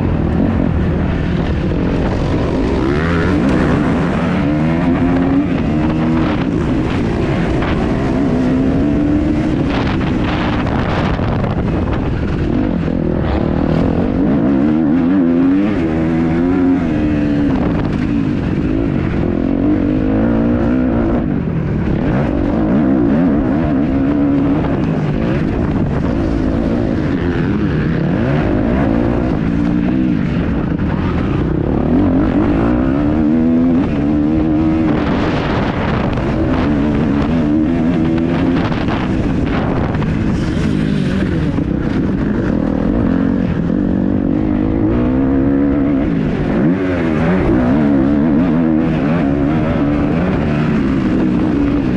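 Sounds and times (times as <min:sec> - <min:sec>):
motocross engine revving: 0:00.0 - 0:51.9.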